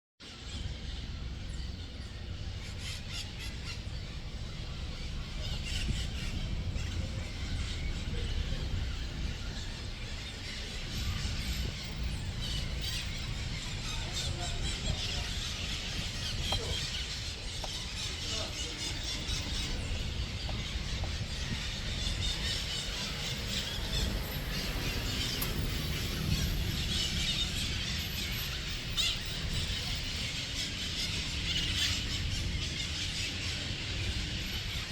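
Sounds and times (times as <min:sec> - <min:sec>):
birds chirping and calling: 0:00.2 - 0:34.9
steady low rumble: 0:00.5 - 0:34.9.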